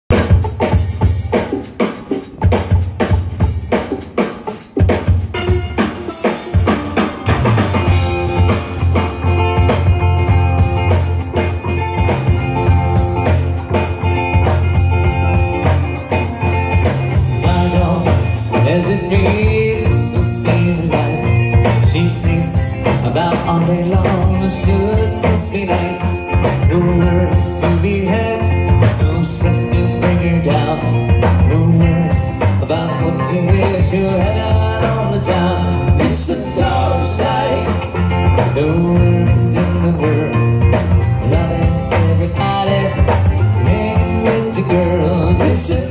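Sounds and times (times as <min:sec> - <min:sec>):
bass guitar: 0:00.0 - 0:45.9
drum kit: 0:00.0 - 0:45.9
electric guitar: 0:00.1 - 0:45.9.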